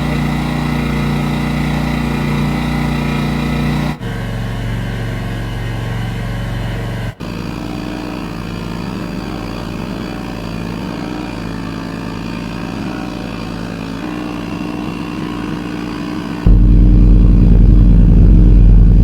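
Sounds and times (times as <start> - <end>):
engine running steadily: 0.0 - 19.0
loud engine: 0.0 - 19.0.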